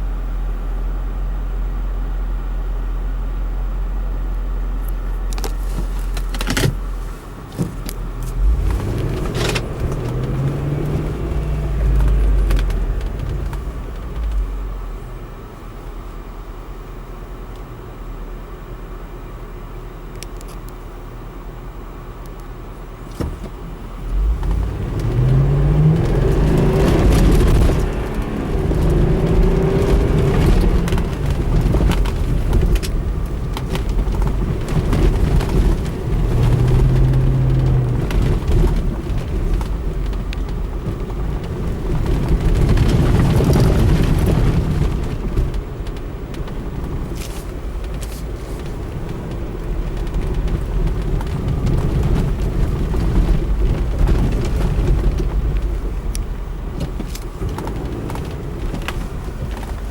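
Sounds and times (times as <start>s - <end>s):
suv engine revving: 3.9s - 15.4s, 23.0s - 59.9s.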